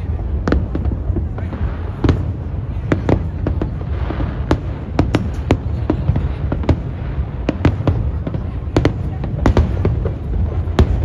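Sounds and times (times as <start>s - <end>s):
fireworks bursting bangs: 0.0s - 11.0s
steady low rumble: 0.0s - 11.0s.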